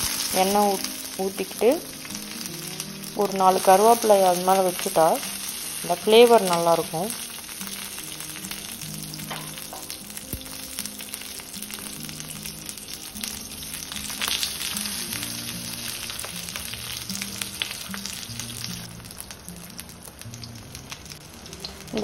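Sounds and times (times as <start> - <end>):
oil sizzling and crackling: 0.0 - 22.0
soft background music: 0.0 - 22.0.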